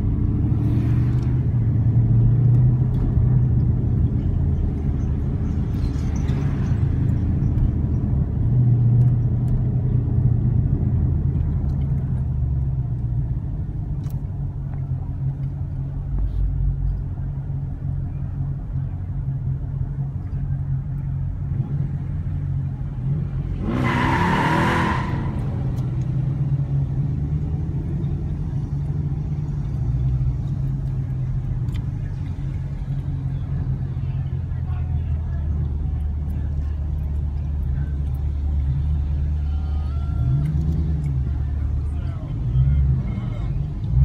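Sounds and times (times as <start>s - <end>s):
car engines rumbling in traffic: 0.0s - 44.0s.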